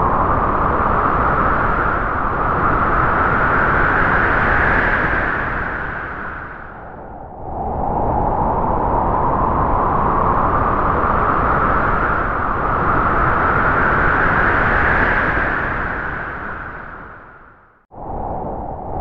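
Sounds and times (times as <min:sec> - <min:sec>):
howling wind: 0:00.0 - 0:19.0.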